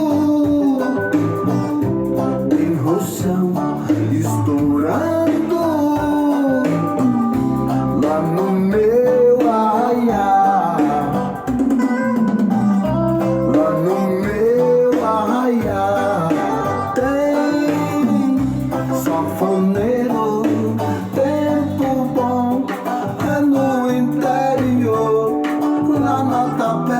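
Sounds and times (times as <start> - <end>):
reggae music: 0.0 - 26.9.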